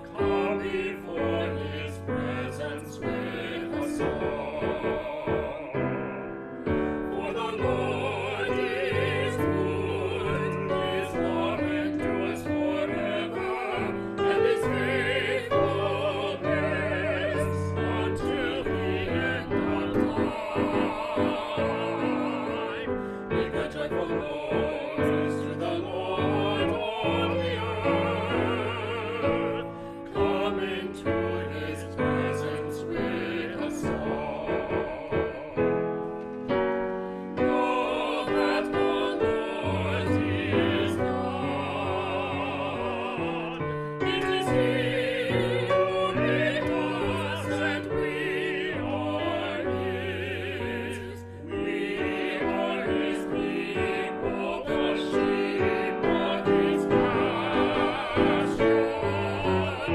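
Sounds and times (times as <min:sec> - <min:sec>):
choir singing: 0:00.0 - 0:59.9
piano: 0:00.0 - 0:59.9.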